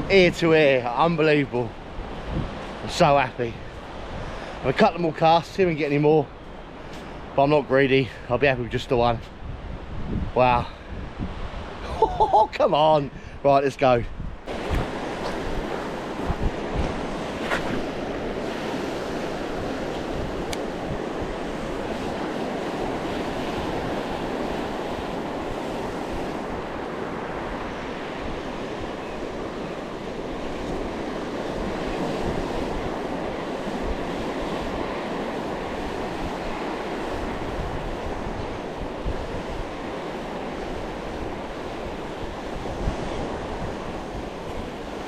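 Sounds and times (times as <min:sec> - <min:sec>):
sea surf washing ashore: 0:00.0 - 0:45.0
wind buffeting microphone: 0:00.0 - 0:45.0.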